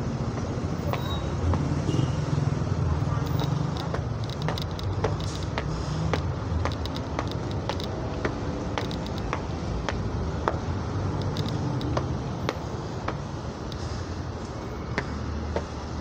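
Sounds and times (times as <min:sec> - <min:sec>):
footsteps on concrete stairs: 0:00.1 - 0:01.8, 0:02.7 - 0:16.0.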